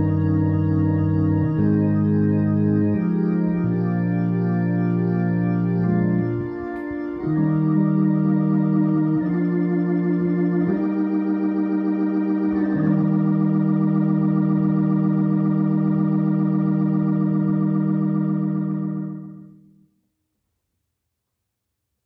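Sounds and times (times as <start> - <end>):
electronic organ playing hymn chords: 0.0 - 19.9.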